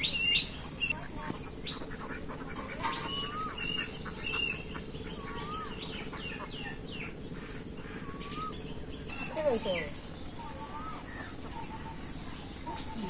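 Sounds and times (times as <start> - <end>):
birds calling: 0.0 - 13.0
insects droning: 0.0 - 13.0.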